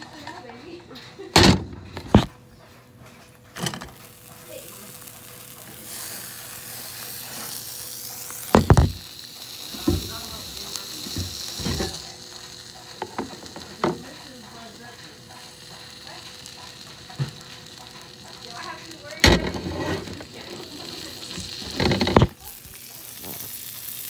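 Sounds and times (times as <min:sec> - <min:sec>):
sandwich sizzling in a frying pan: 0:03.3 - 0:24.0.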